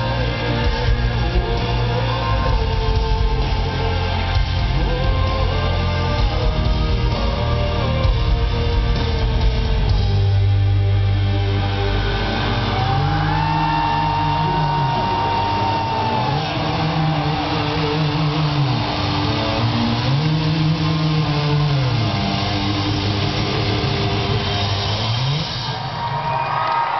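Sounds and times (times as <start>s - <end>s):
heavy metal band held notes: 0.0s - 26.9s.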